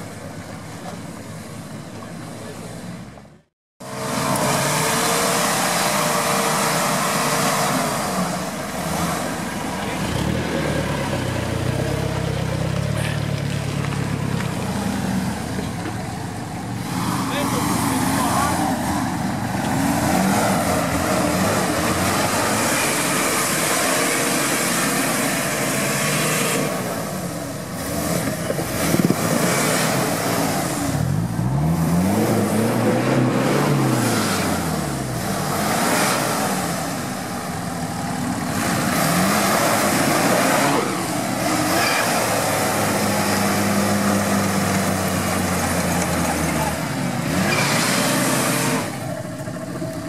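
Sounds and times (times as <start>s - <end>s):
off-road engine revving hard: 3.8s - 50.0s.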